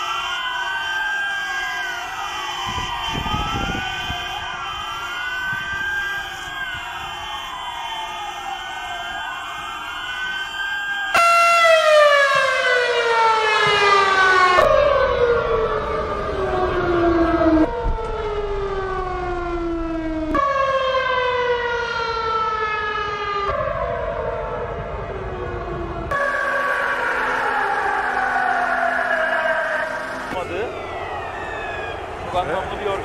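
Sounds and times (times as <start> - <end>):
sirens wailing: 0.0 - 33.0.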